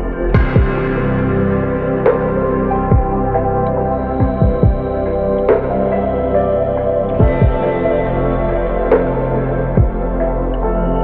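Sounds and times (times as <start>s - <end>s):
slow ambient synth music: 0.0s - 11.0s.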